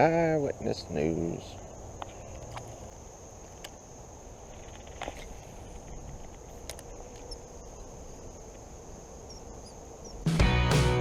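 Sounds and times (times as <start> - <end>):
high-pitched insect trill: 0.0 - 10.3.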